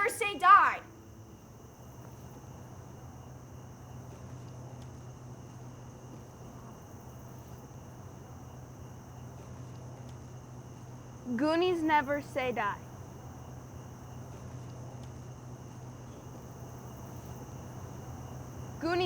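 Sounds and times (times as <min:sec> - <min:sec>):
crickets chirping: 0:00.0 - 0:19.0
faint low hum: 0:00.0 - 0:19.0.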